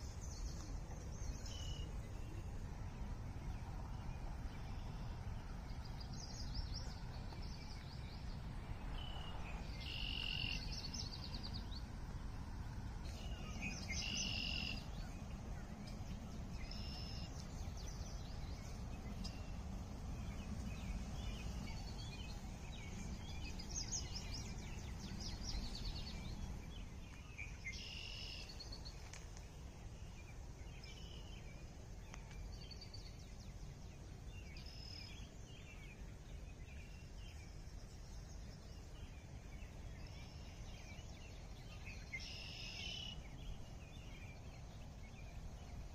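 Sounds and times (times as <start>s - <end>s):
low background rumble: 0.0s - 45.9s
songbirds singing: 0.0s - 45.9s.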